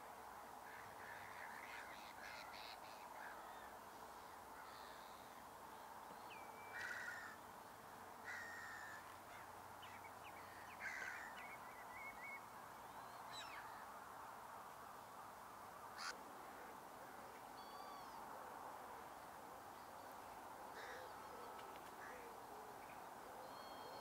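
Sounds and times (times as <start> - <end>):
steady low hiss of air: 0.0 - 24.0.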